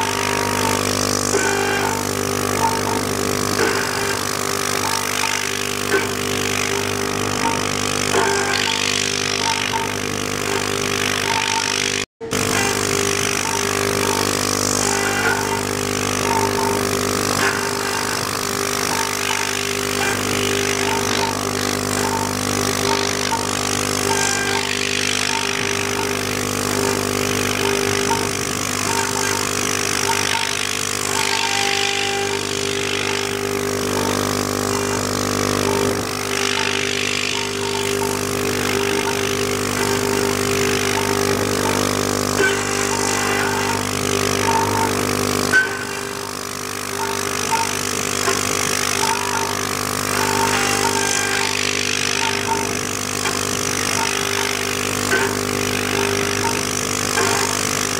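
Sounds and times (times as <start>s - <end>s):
router spindle whining: 0.0s - 57.9s.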